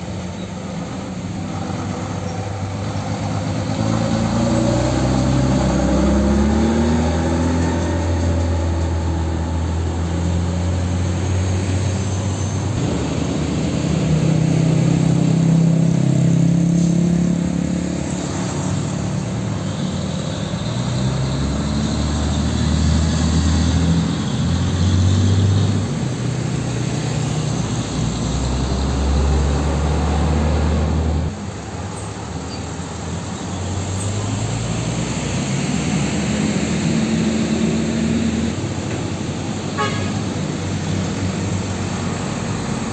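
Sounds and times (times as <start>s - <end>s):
diesel trucks passing: 0.0s - 42.9s
tyre and road noise: 0.0s - 42.9s.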